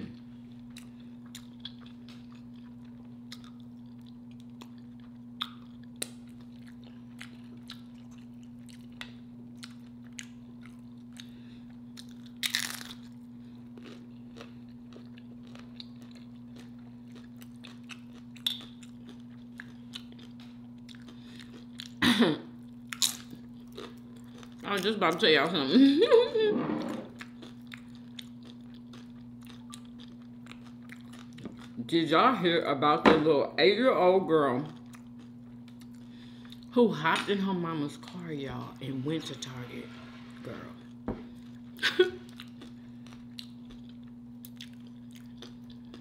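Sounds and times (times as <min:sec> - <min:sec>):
crunching and chewing chips: 0:00.0 - 0:25.6, 0:27.1 - 0:31.9, 0:34.6 - 0:36.8, 0:40.7 - 0:46.0.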